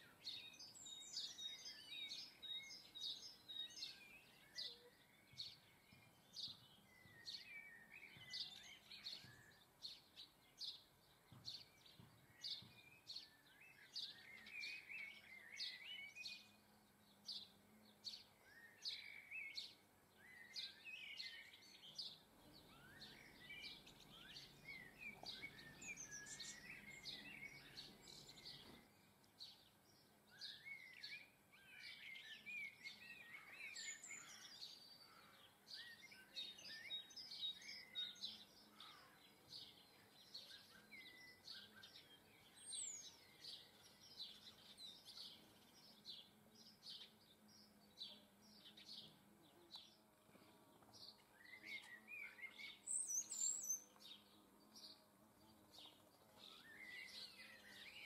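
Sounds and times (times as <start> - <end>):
songbirds twittering and chirping: 0.0 - 58.0.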